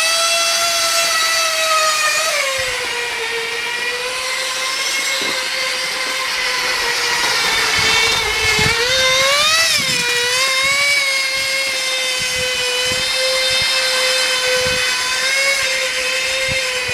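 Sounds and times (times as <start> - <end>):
model engine high whine: 0.0 - 16.9.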